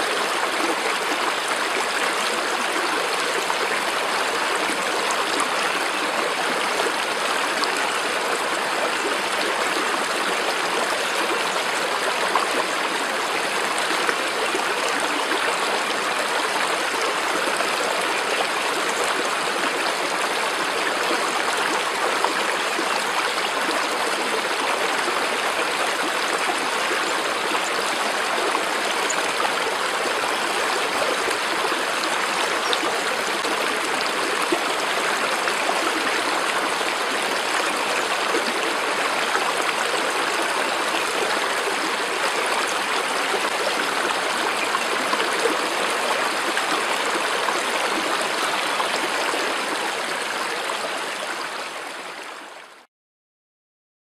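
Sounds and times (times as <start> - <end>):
stream rushing: 0.0 - 52.2.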